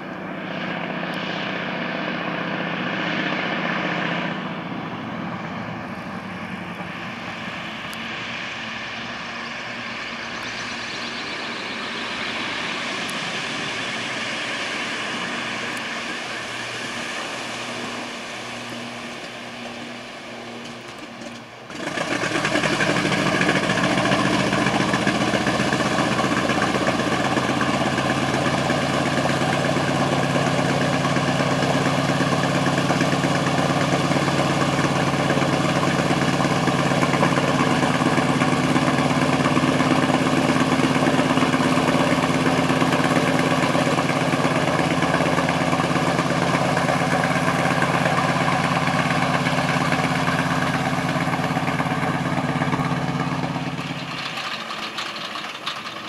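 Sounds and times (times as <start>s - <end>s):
propeller plane engine running: 0.0s - 56.0s.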